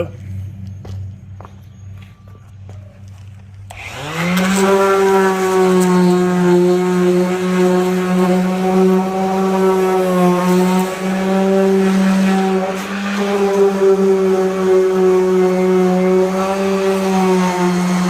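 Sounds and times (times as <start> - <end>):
power sander whining: 3.0 - 18.0.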